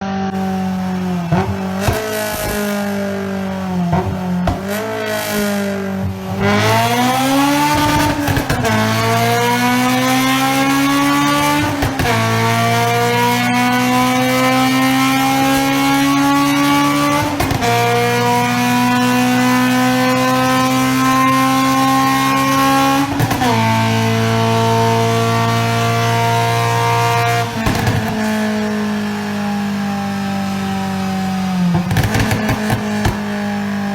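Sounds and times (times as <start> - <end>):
car engine revving and accelerating: 0.0 - 33.9.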